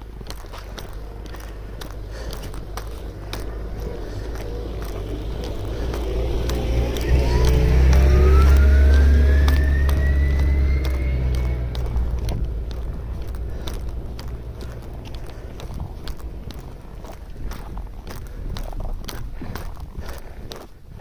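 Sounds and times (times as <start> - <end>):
rising vehicle whine: 0.0 - 20.6
footsteps crunching in snow: 0.0 - 21.0
heavy vehicle rumbling: 0.0 - 21.0.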